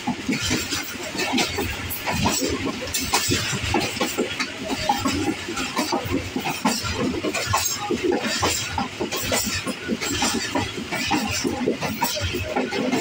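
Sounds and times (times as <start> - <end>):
wheels rumbling on rail: 0.0 - 13.0
coach rattling and clinking: 0.2 - 13.0.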